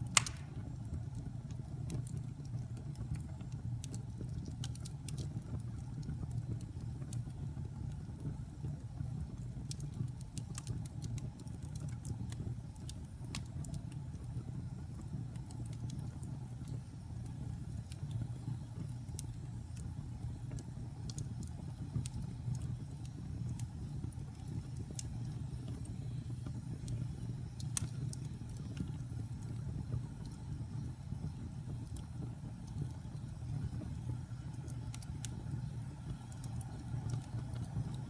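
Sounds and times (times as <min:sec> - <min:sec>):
fire crackles and pops: 0:00.0 - 0:38.0
fire flames rumbling: 0:00.0 - 0:38.0.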